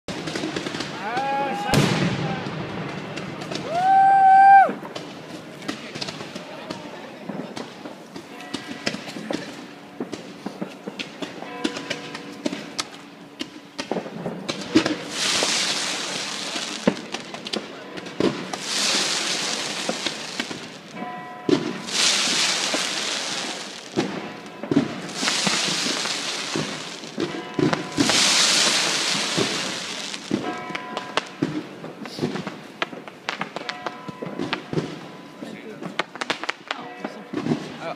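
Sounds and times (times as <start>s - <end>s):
fireworks bangs and pops: 0.1s - 37.9s
fireworks crackling hisses: 0.1s - 37.9s.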